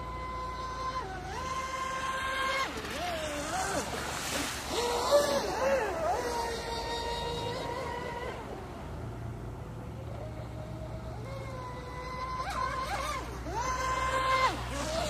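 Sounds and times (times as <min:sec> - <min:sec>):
electric boat motor whining: 0:00.0 - 0:15.0.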